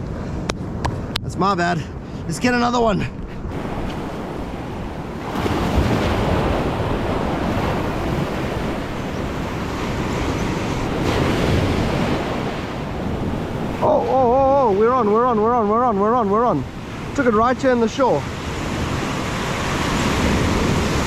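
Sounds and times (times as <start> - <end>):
wind on microphone: 0.0 - 21.0
ocean surf washing ashore: 1.4 - 21.0.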